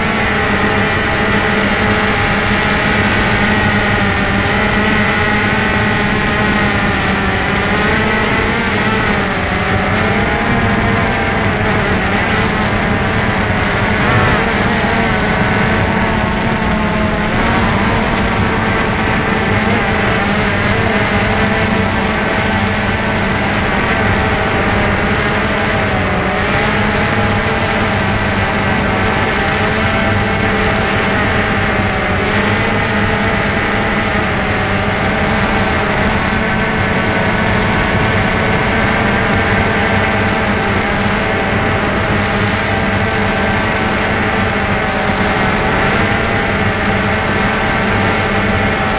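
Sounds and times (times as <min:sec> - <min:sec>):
drone propellers whining: 0:00.0 - 0:48.9.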